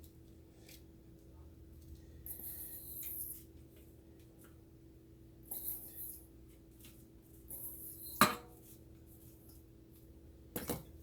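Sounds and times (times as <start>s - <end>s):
soft rustling of kitchen items: 0.0s - 11.0s.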